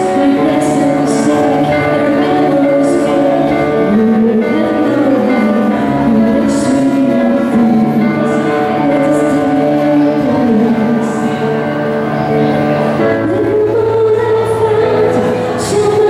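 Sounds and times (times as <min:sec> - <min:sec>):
woman singing: 0:00.0 - 0:12.2, 0:13.0 - 0:16.0.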